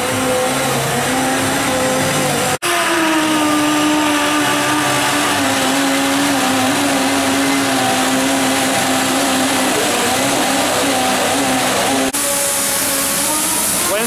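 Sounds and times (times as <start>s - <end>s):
drill motor humming: 0.0s - 14.0s.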